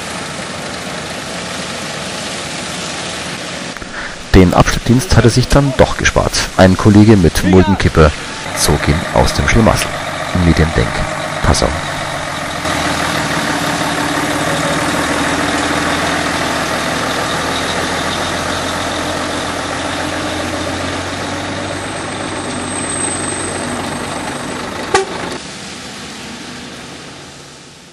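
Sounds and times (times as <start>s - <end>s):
heavy truck engines running: 0.0s - 27.9s.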